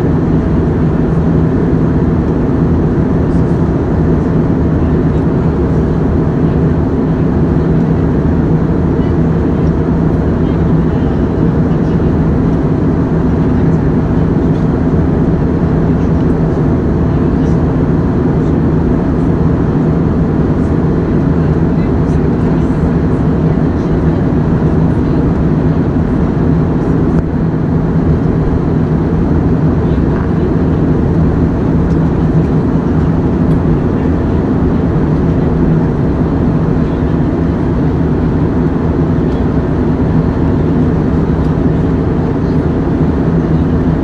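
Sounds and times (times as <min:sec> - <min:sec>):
airliner cabin engine roar: 0:00.0 - 0:44.0
faint hum: 0:00.0 - 0:44.0.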